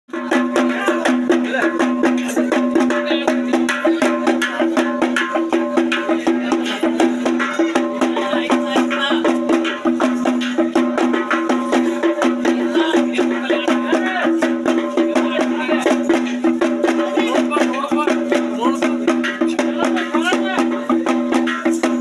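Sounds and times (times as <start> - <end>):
fast dense drumming: 0.1 - 22.0.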